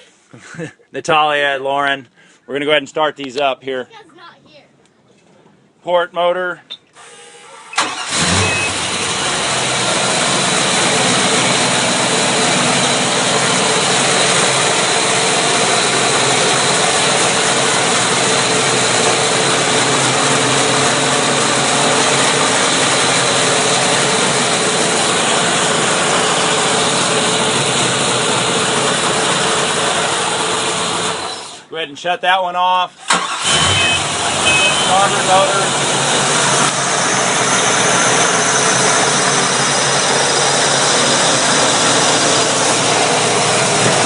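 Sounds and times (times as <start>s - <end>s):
boat engine starting and idling: 6.9s - 31.7s, 33.0s - 44.0s.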